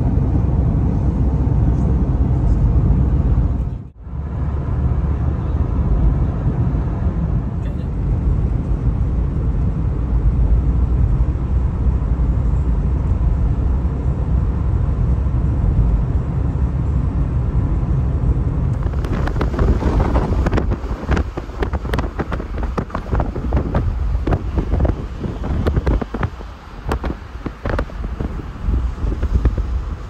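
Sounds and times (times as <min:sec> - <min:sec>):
car road and engine rumble: 0:00.0 - 0:30.0
wind buffeting microphone: 0:00.0 - 0:30.0.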